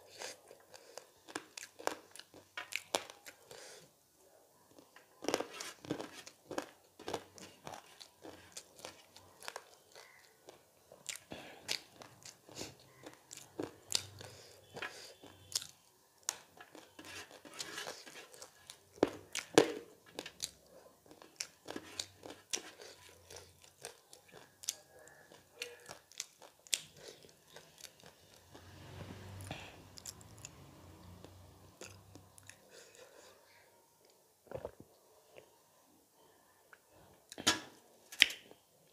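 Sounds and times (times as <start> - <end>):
crunching and chewing: 0.0 - 3.7, 4.7 - 28.7, 29.4 - 33.2.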